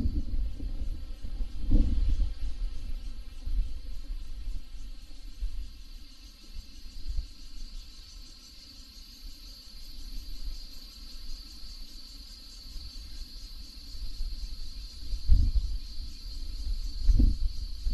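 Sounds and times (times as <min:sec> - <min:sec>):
insects trilling: 0:00.0 - 0:17.9.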